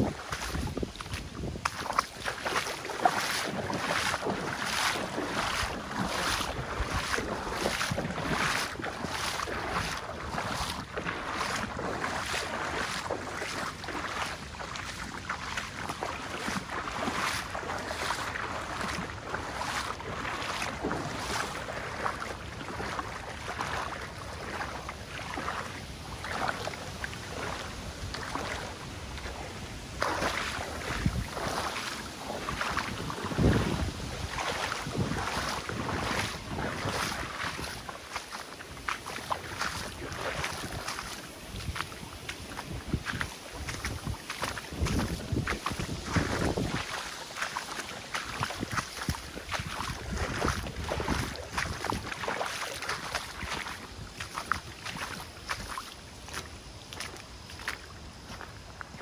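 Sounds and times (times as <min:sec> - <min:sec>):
wind on microphone: 0:00.0 - 0:38.0, 0:38.8 - 0:55.7
footsteps walking: 0:00.0 - 0:59.0
river water rushing: 0:00.0 - 0:59.0.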